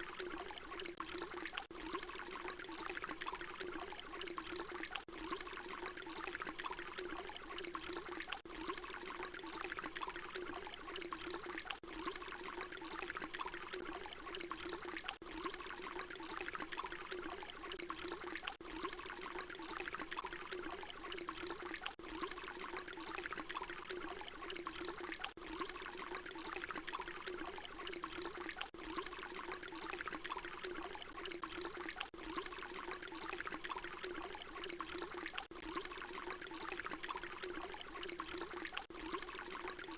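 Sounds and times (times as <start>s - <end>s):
water pouring: 0.0s - 39.9s.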